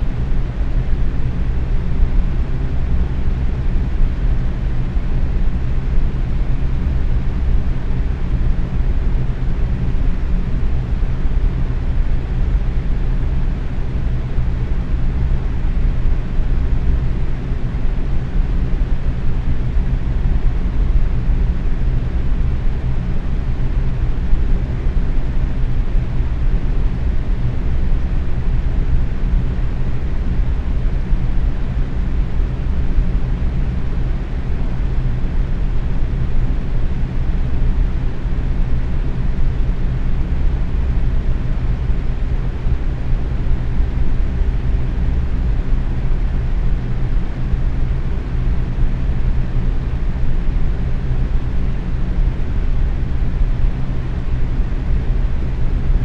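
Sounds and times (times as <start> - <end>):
box fan running: 0.0 - 56.0.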